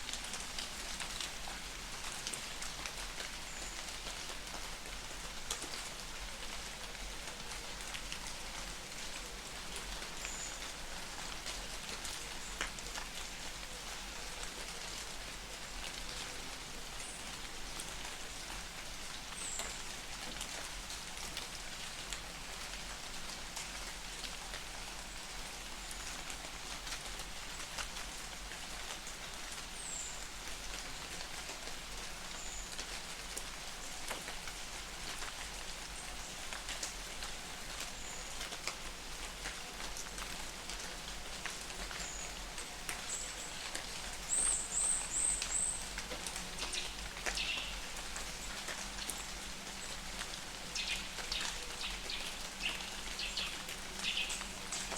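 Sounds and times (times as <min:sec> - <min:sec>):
light rain patter: 0:00.0 - 0:54.9.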